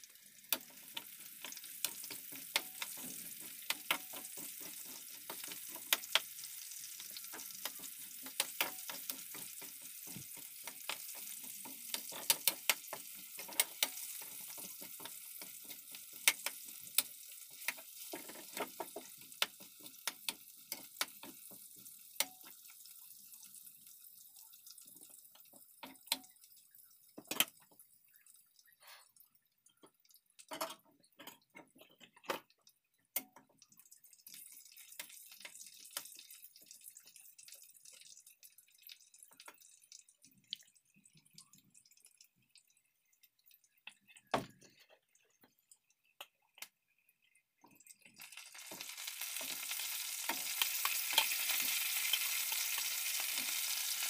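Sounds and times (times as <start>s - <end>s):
food frying in a wok: 0.0s - 46.8s, 47.6s - 54.0s.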